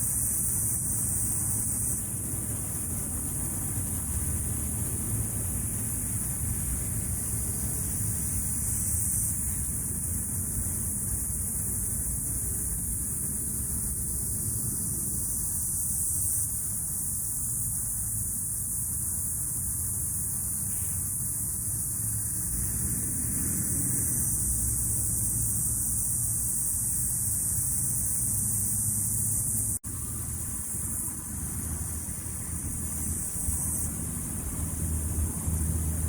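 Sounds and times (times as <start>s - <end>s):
cicadas buzzing: 0.0s - 36.0s.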